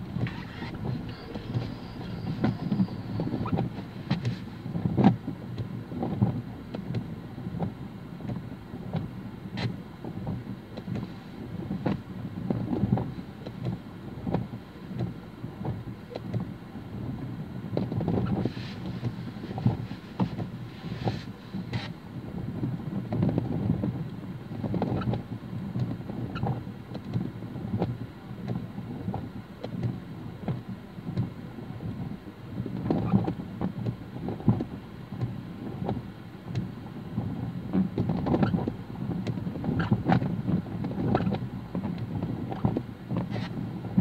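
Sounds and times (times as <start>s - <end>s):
car cabin rumble: 0.0s - 44.0s
raindrops ticking on car roof: 0.0s - 44.0s.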